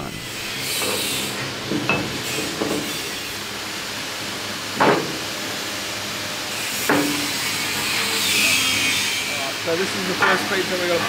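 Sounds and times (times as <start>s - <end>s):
steady workshop hiss: 0.0s - 11.0s.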